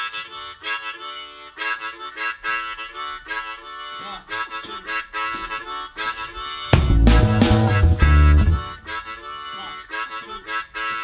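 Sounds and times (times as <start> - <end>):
harmonica chords in music: 0.0 - 11.0.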